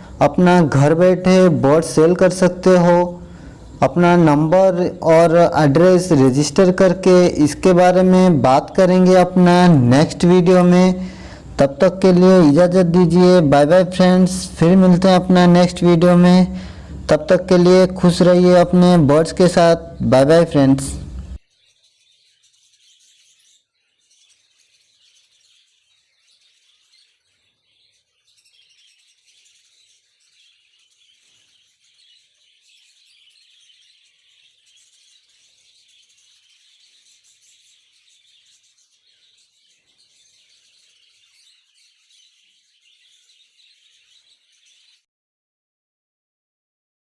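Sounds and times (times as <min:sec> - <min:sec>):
small birds chirping: 0:00.0 - 0:45.1.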